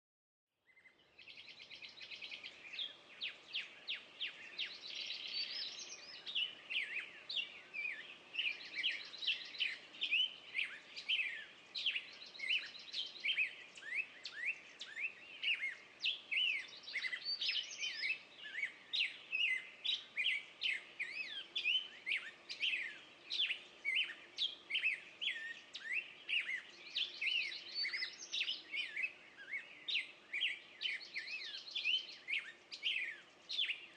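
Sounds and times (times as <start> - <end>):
songbirds chirping: 0.6 - 33.9.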